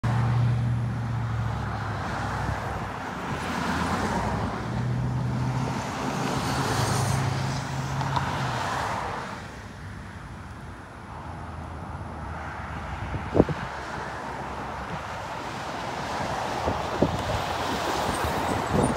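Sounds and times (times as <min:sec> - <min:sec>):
vehicles driving past: 0:00.0 - 0:18.9.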